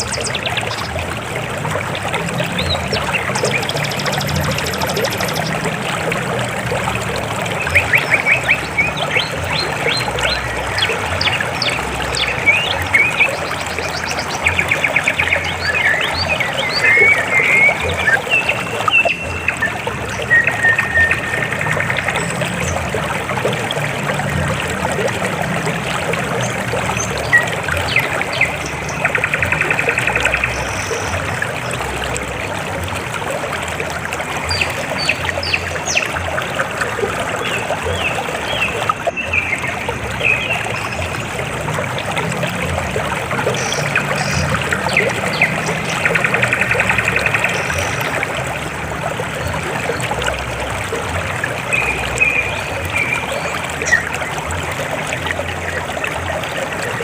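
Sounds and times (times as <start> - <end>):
river water trickling: 0.0 - 57.0.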